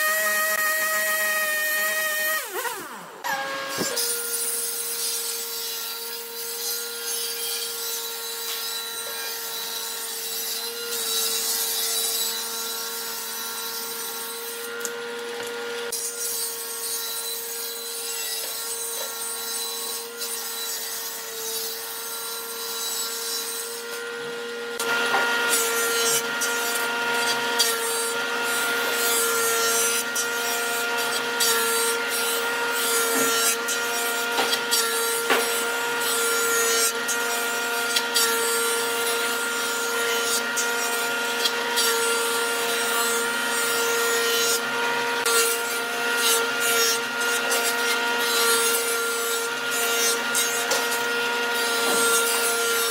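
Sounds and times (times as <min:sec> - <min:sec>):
jointer running with steady hum: 0:00.0 - 0:52.9
wood cutting noise: 0:00.0 - 0:52.9.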